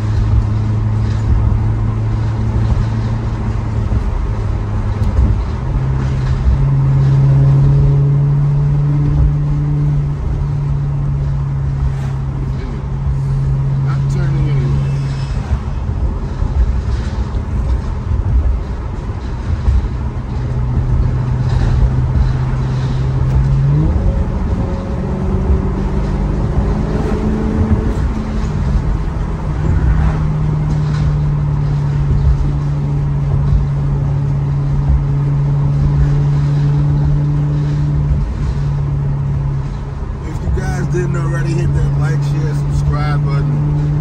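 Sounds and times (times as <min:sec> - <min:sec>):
car engine and exhaust drone: 0:00.0 - 0:44.0
road rumble: 0:00.0 - 0:44.0.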